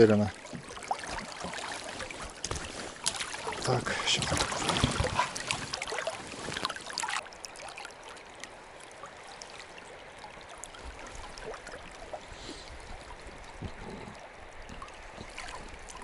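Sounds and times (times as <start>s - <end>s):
river flowing over stones: 0.0s - 16.0s.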